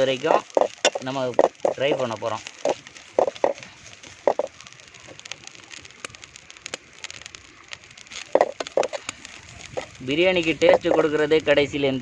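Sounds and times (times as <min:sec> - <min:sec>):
coconut crackling in a pan: 0:00.0 - 0:12.0.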